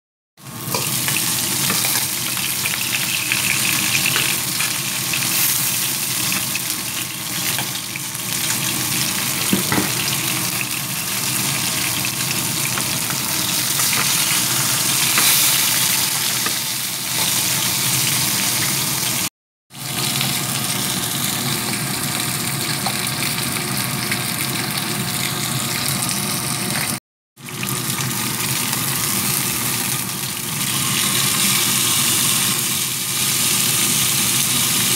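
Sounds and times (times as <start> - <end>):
fish sizzling in hot oil: 0.5 - 25.4, 27.4 - 34.9.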